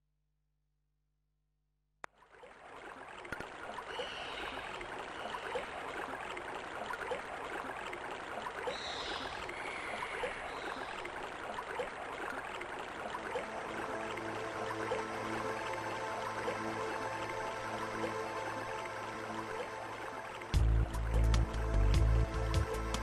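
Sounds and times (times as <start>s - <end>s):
water lapping with small ticks: 2.0s - 23.0s.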